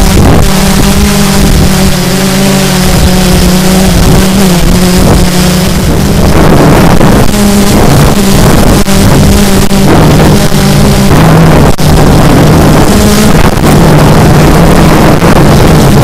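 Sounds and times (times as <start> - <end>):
drone motors humming: 0.0 - 16.0
wind on microphone: 0.0 - 16.0.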